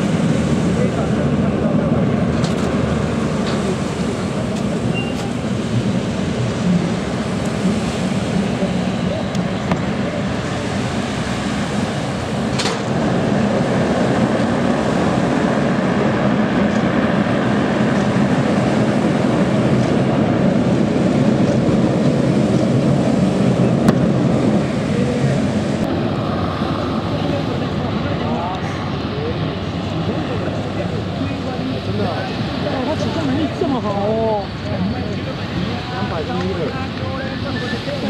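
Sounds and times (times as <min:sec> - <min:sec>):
turboprop engines running: 0:00.0 - 0:38.0.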